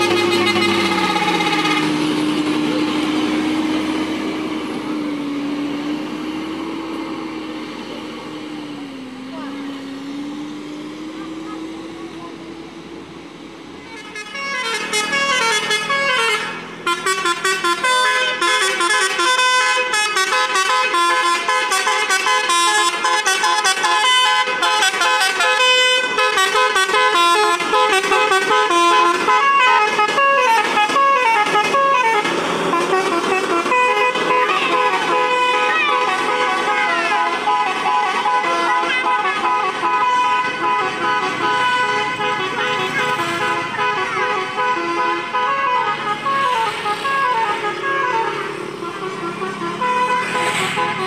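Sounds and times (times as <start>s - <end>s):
musical bus horn playing a tune: 0.0s - 5.0s, 13.8s - 51.0s.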